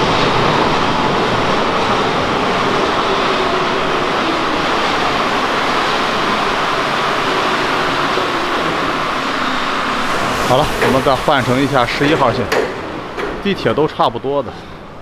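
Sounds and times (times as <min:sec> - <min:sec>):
train rolling into platform: 0:00.0 - 0:15.0.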